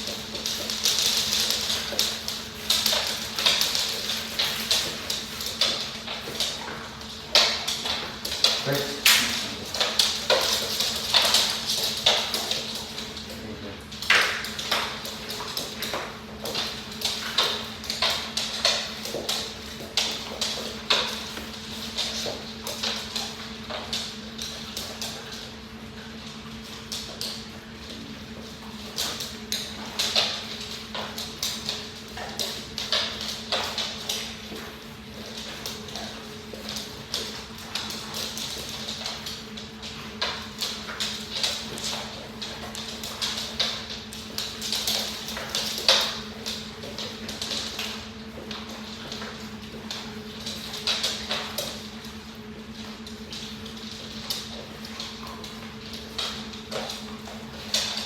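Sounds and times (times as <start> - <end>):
dog claws and kibble on hard floor: 0.0 - 58.0
steady low hum: 0.0 - 58.0.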